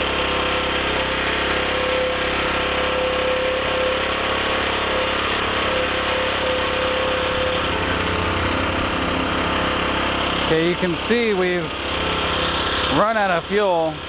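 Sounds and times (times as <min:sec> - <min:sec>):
small generator engine running: 0:00.0 - 0:14.0.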